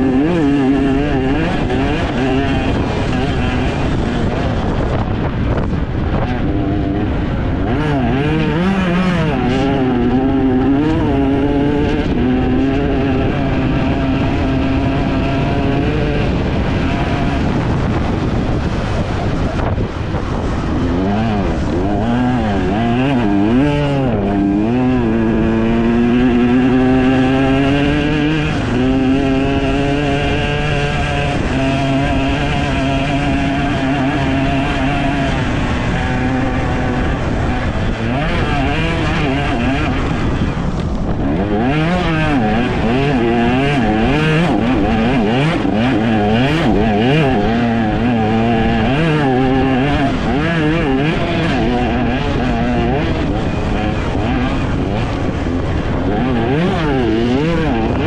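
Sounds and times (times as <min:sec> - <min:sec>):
motorcycle engine revving: 0:00.0 - 0:58.0
wind and ground noise: 0:00.0 - 0:58.0.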